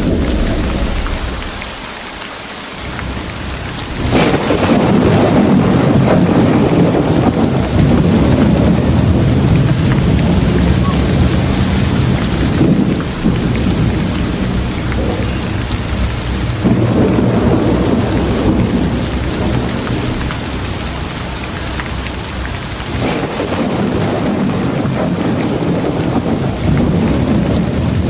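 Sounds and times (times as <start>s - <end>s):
low thunder rumble: 0.0s - 2.2s, 2.9s - 28.0s
rain falling: 0.0s - 28.0s.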